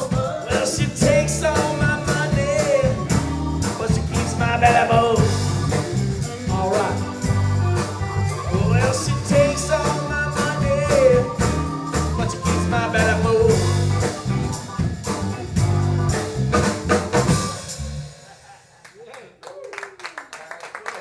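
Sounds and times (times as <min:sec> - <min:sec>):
steady drum beat: 0:00.0 - 0:18.4
live band playing: 0:00.0 - 0:18.7.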